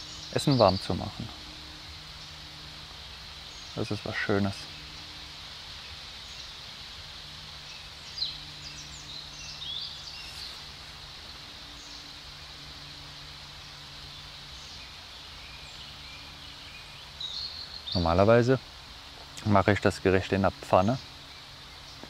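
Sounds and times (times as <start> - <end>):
bird chirps: 0.0 - 18.6
faint low hum: 0.0 - 22.0
soft hiss: 0.0 - 22.0.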